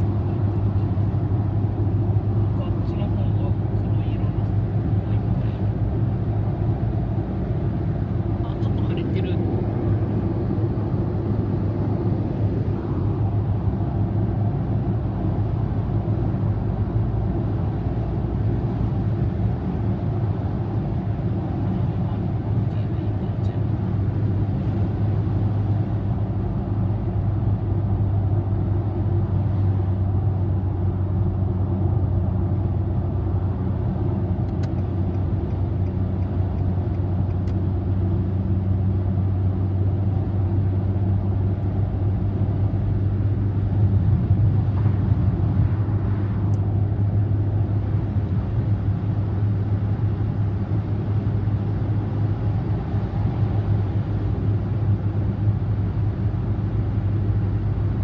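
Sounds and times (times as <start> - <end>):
car engine and tyre road noise: 0.0 - 58.0.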